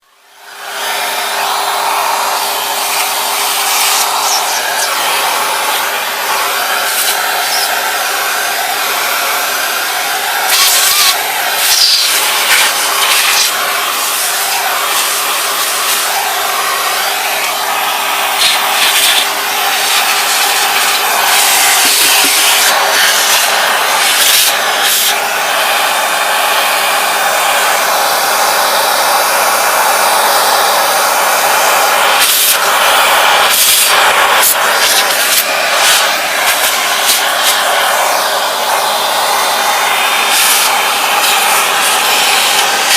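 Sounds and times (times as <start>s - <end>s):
vacuum cleaner motor whining: 0.0s - 42.9s.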